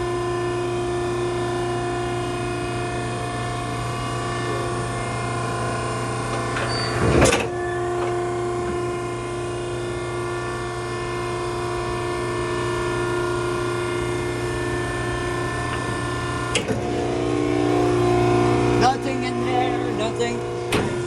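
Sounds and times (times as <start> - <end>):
hydraulic power unit humming: 0.0 - 21.0.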